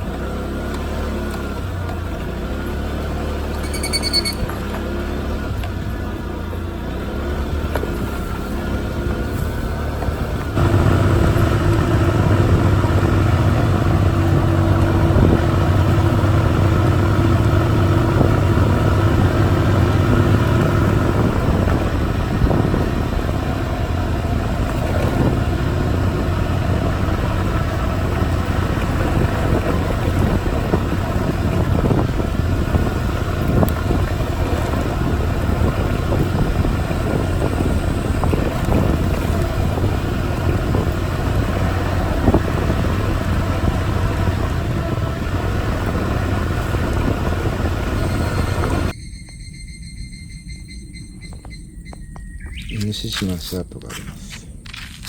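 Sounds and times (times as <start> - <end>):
moped engine running: 0.0 - 49.0
road and wind noise: 0.0 - 55.0.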